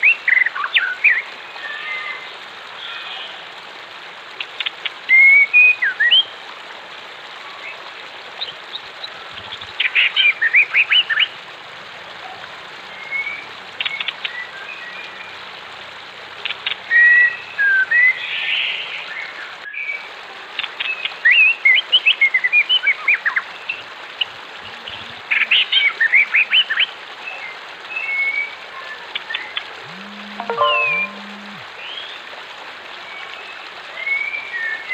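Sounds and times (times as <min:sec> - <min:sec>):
flowing water hiss: 0:00.0 - 0:34.9.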